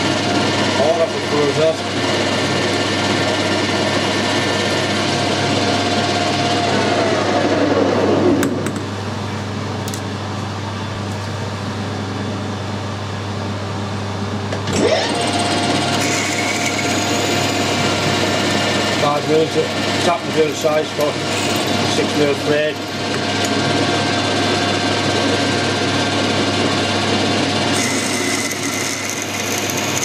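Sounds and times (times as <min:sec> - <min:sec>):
metal lathe running: 0:00.0 - 0:08.8, 0:14.7 - 0:30.0
low mechanical hum: 0:00.0 - 0:30.0.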